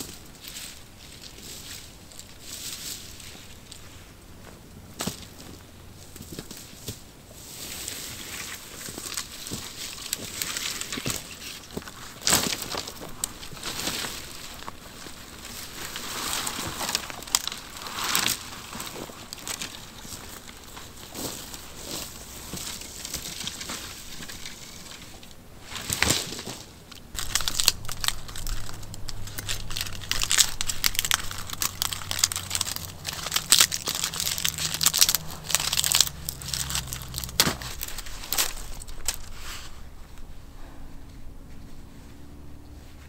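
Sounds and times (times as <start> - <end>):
crinkling and crumpling: 0.0 - 43.0.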